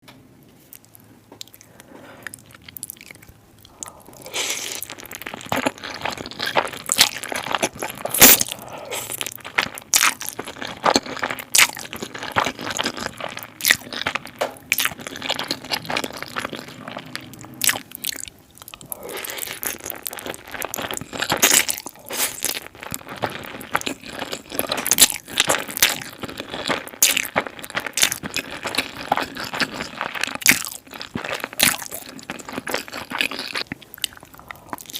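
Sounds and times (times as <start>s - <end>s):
person chewing spaghetti: 0.7s - 34.9s.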